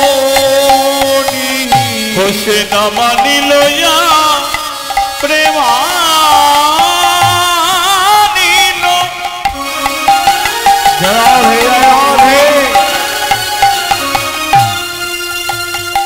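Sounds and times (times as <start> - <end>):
devotional instrumental melody: 0.0 - 16.0.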